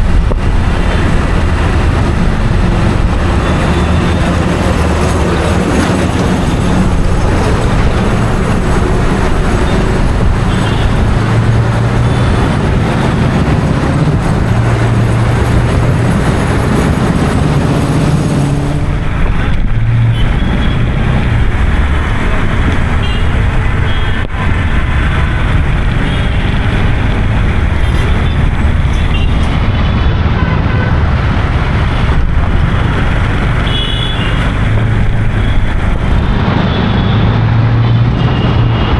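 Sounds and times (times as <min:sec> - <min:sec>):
road traffic noise: 0:00.0 - 0:38.9.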